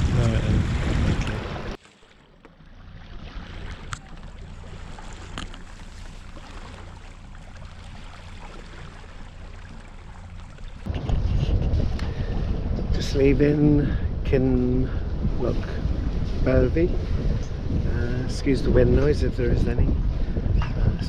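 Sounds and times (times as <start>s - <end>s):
boat engine rumble: 0.0s - 21.0s
wind and water hiss: 0.0s - 21.0s.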